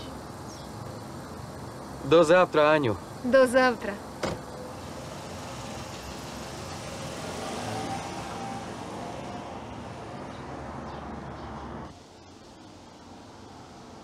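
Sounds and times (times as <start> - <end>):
car passing: 0.7 - 12.0.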